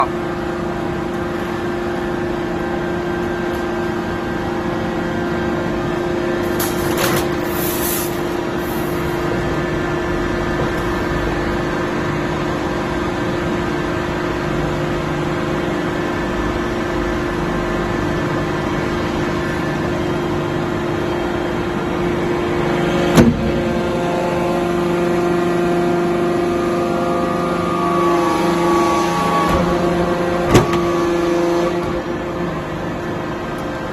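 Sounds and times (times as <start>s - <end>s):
machine mechanical hum: 0.0s - 33.9s.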